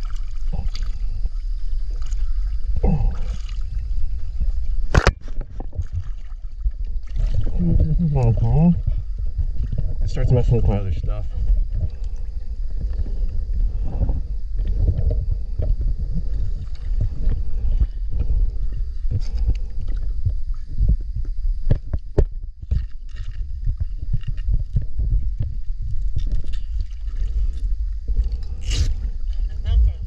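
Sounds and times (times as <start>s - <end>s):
water sloshing: 0.0s - 21.0s, 21.7s - 30.0s.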